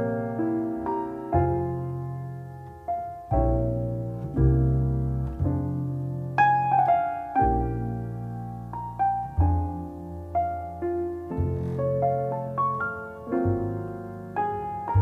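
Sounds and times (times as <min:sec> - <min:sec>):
jazz piano ballad: 0:00.0 - 0:15.0.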